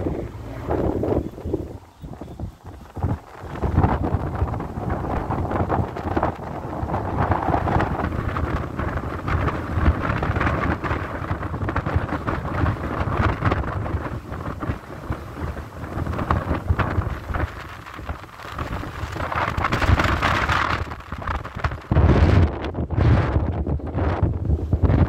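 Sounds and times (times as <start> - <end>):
car road noise: 0.0 - 22.6
wind buffeting microphone: 0.0 - 25.0.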